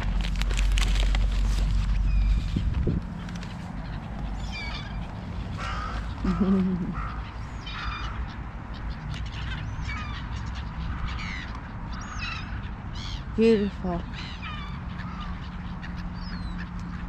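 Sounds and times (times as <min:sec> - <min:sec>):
crows and gulls calling: 0:00.2 - 0:17.0.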